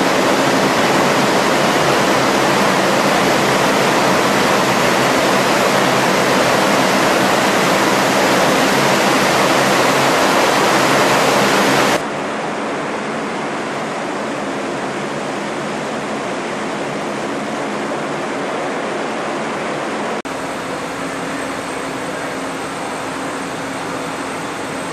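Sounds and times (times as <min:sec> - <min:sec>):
hovercraft engines rushing: 0:00.0 - 0:24.9.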